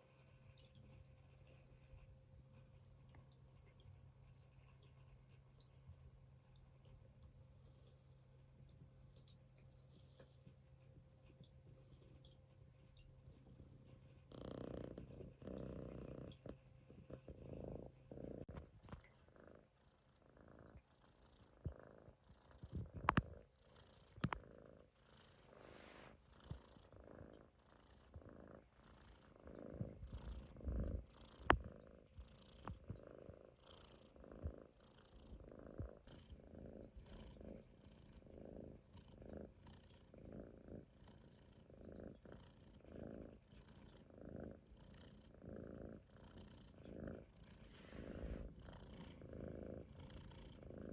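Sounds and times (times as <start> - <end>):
kitten snoring softly: 0.0 - 50.9.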